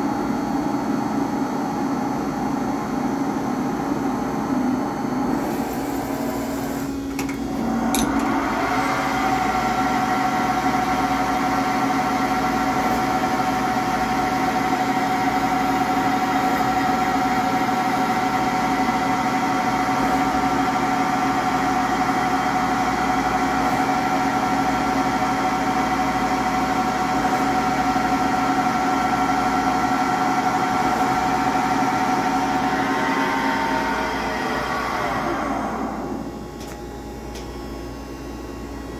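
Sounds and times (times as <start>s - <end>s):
lathe spindle whine: 0.0s - 38.0s.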